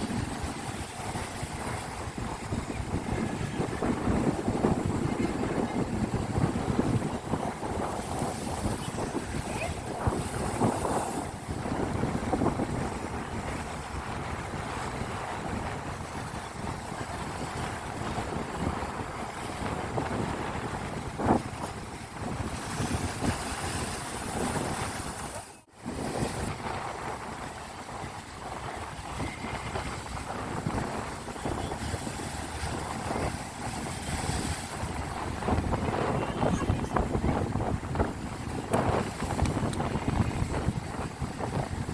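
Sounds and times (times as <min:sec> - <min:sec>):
sea waves washing in: 0:00.0 - 0:41.9
wind buffeting microphone: 0:00.0 - 0:41.9.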